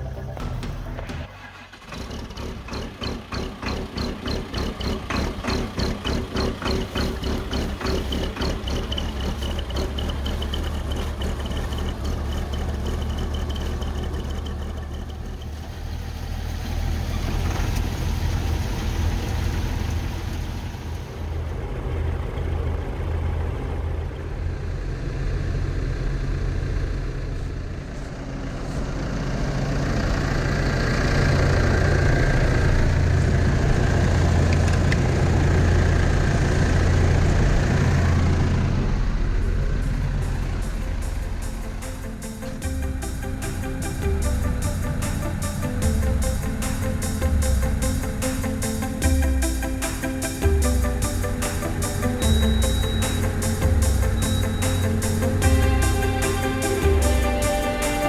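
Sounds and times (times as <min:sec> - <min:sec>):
diesel engine starting and idling: 0:00.0 - 0:58.0.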